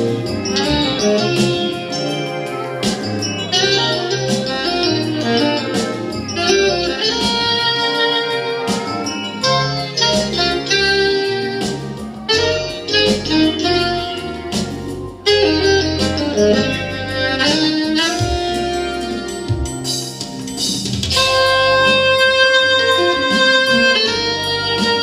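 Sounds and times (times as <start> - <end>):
bass line: 0.0 - 25.0
melodic jazz lead instrument: 0.0 - 25.0
piano chords: 0.0 - 25.0.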